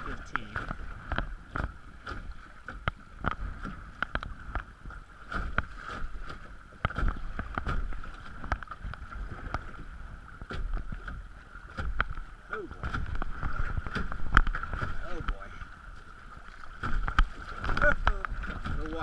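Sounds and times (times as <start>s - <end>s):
creek water rushing and splashing: 0.0s - 19.0s
paddle knocks and splashes: 0.0s - 19.0s.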